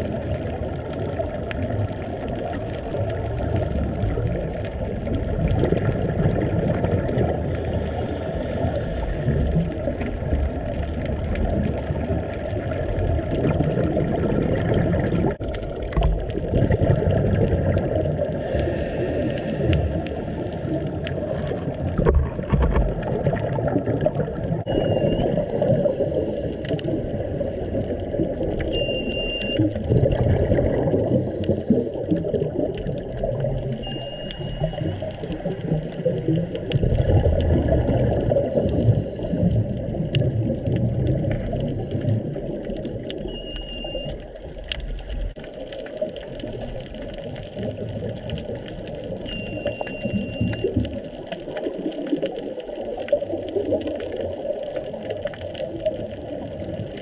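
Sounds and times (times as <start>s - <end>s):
muffled underwater rumble and gurgling: 0.0s - 57.0s.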